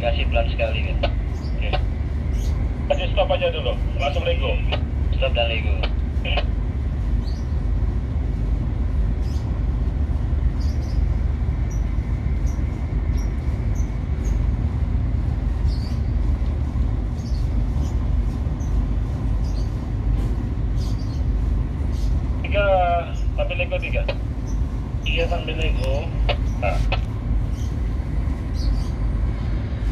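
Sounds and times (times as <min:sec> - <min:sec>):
ship diesel engine rumbling: 0:00.0 - 0:29.9.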